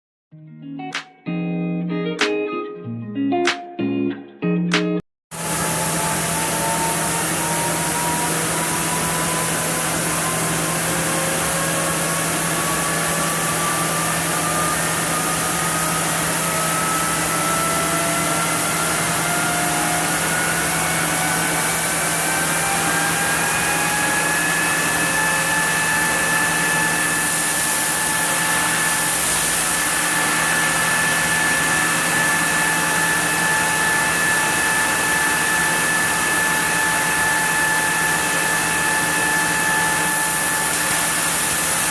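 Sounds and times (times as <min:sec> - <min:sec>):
sawmill machinery hum and whine: 0:05.3 - 0:41.9.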